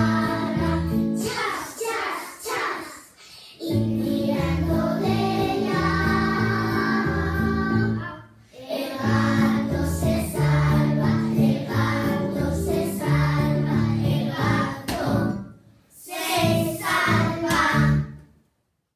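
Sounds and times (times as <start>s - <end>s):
children singing together: 0.0s - 18.2s.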